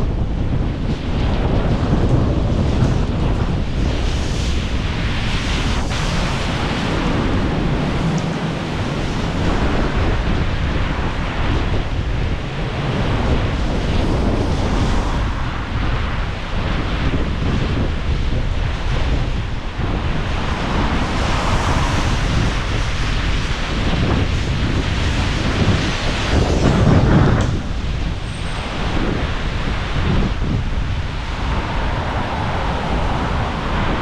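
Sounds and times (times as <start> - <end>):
storm wind buffeting microphone: 0.0 - 34.0.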